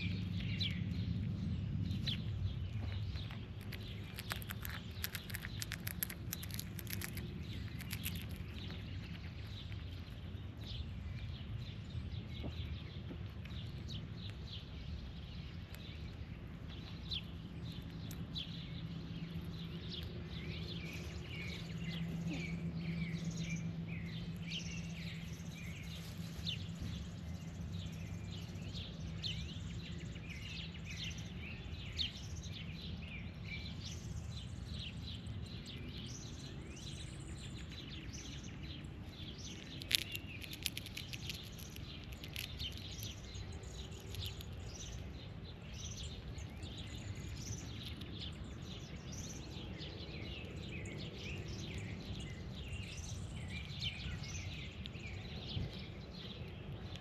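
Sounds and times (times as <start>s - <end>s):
birds chirping: 0.0s - 57.0s
low steady hum: 0.0s - 57.0s.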